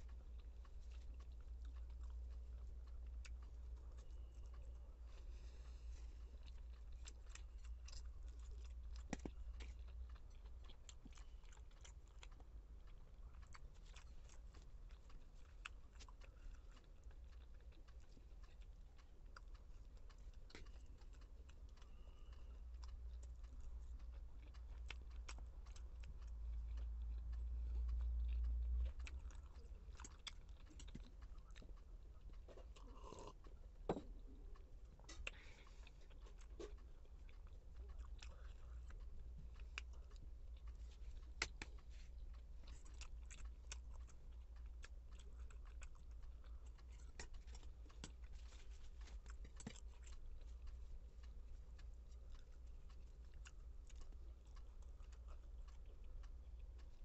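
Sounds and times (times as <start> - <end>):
soft chewing: 0.0 - 57.0.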